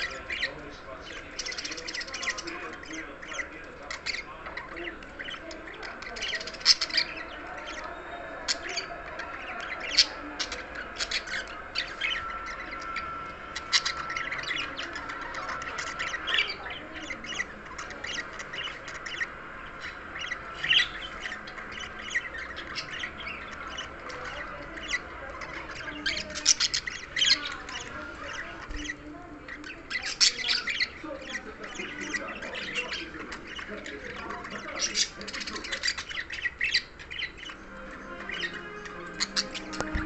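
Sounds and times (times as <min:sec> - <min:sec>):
budgerigar chattering: 0:00.0 - 0:40.0.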